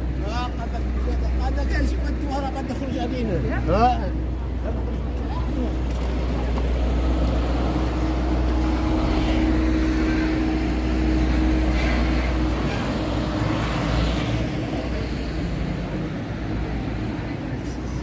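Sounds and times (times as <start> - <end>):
engine hum: 0.0 - 18.0
traffic passing: 0.0 - 18.0.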